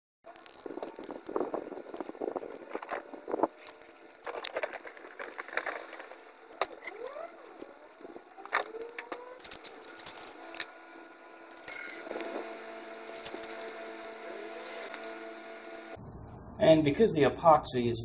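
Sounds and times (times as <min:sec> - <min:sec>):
faint steady hum: 0:00.3 - 0:18.0.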